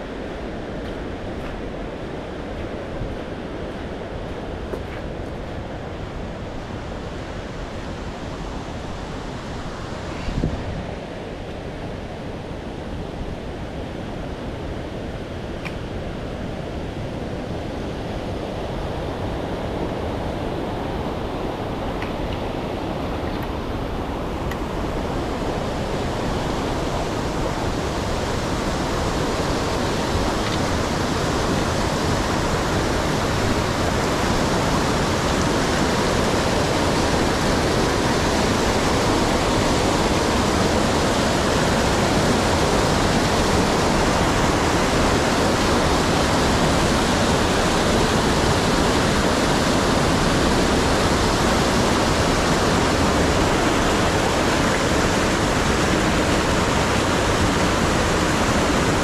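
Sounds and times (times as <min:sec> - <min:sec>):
rushing water roar: 0:00.0 - 0:59.0.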